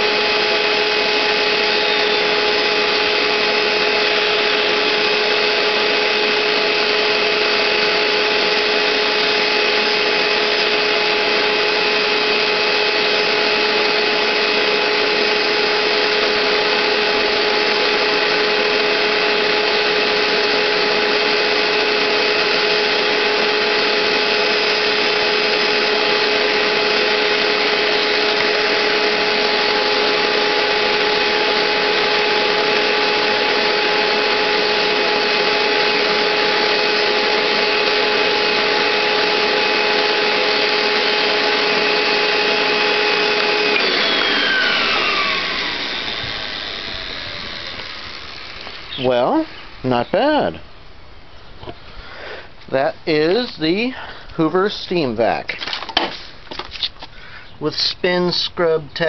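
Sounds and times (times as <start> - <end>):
carpet cleaner motor whining: 0.0 - 50.8.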